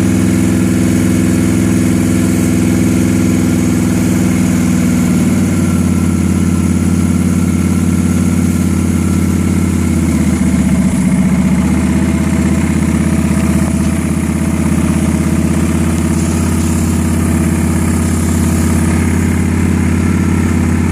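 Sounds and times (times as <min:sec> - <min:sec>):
engine idling: 0:00.0 - 0:20.9.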